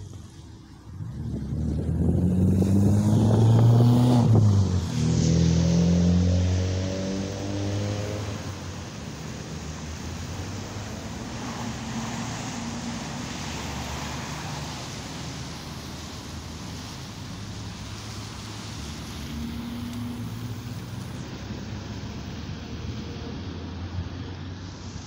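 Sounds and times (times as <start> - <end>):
cars driving on wet road: 0.0 - 25.0
low engine hum: 0.0 - 25.0.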